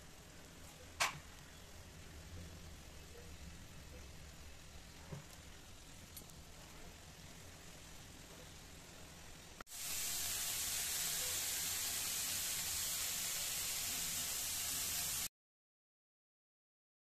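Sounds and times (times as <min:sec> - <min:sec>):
gravy sizzling and bubbling: 0:00.0 - 0:15.3.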